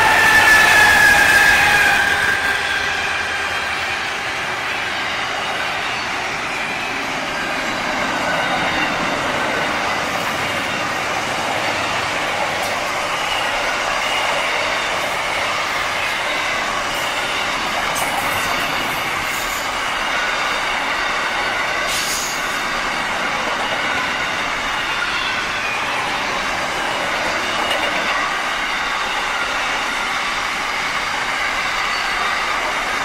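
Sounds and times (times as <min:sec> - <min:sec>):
steel wheels on rail: 0:00.0 - 0:33.0.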